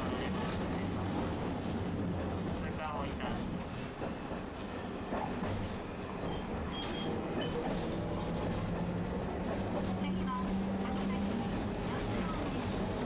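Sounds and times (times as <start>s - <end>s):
streetcar wheels rumbling: 0.0s - 2.7s, 3.4s - 13.0s.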